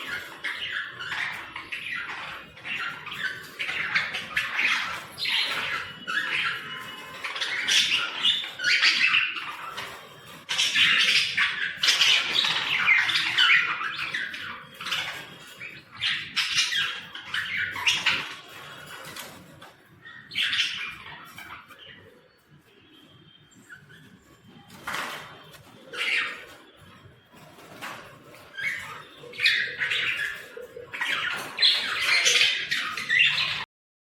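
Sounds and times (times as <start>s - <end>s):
budgerigars chattering and squawking: 0.0s - 33.6s.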